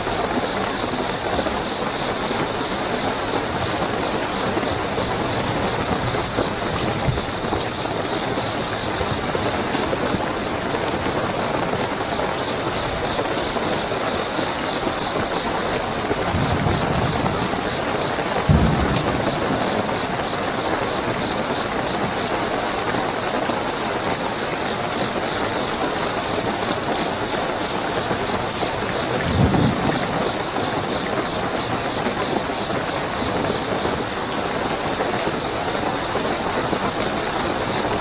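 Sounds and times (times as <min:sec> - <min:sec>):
crickets trilling: 0:00.0 - 0:38.0
heavy rainfall: 0:00.0 - 0:38.0.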